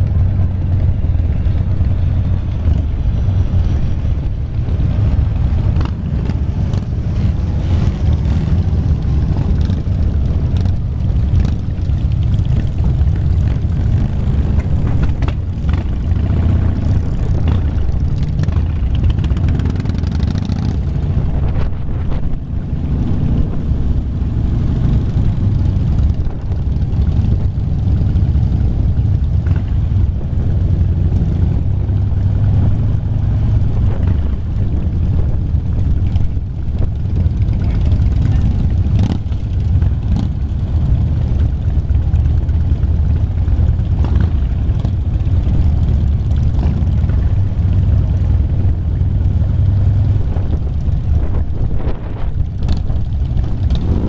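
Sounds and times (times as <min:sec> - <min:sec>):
motorcycle engines rumbling: 0:00.0 - 0:54.0.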